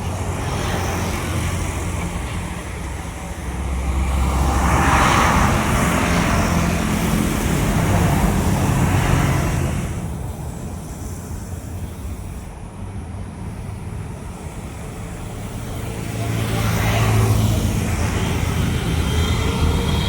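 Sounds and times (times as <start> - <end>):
jet airliner passing: 0.0 - 12.5, 13.5 - 20.0.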